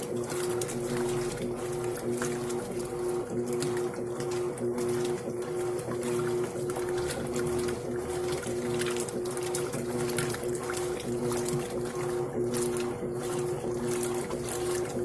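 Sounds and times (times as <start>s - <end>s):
washing machine motor hum: 0.0s - 15.0s
water splashing and trickling: 0.0s - 15.0s.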